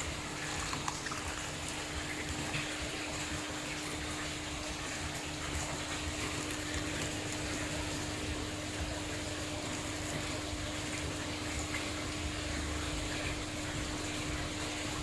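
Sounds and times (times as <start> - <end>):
circulating water rushing: 0.0 - 15.0
pump low hum: 0.0 - 15.0.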